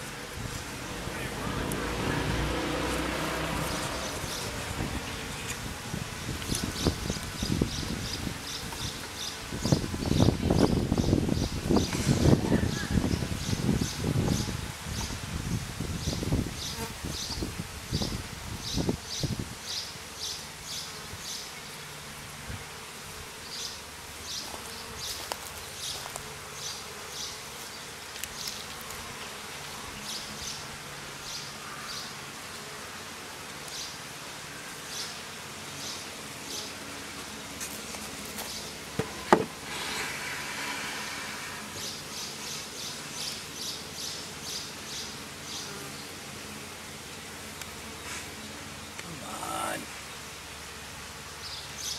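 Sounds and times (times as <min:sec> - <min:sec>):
bees buzzing: 0:00.0 - 0:15.2, 0:16.0 - 0:51.9.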